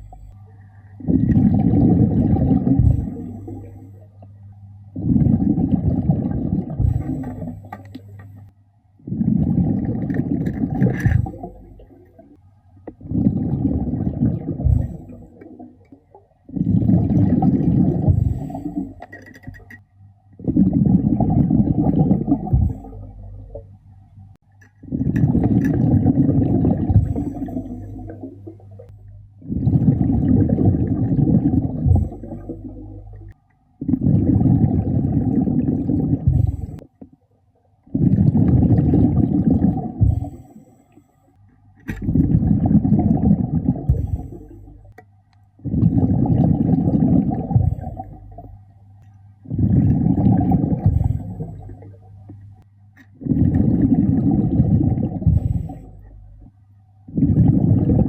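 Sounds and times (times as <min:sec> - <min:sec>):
underwater air bubbling: 0:00.0 - 0:58.0.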